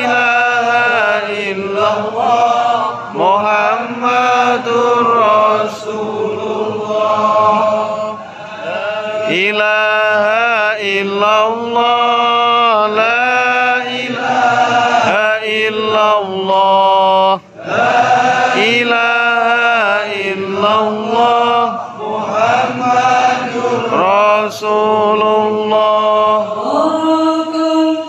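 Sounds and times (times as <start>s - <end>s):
men chanting: 0.0s - 27.0s.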